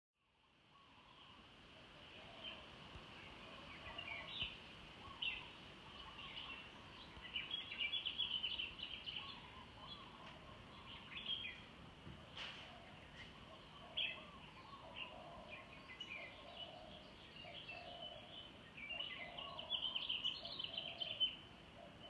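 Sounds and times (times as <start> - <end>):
low background hiss: 0.2 - 22.0
small birds chirping: 0.4 - 22.0.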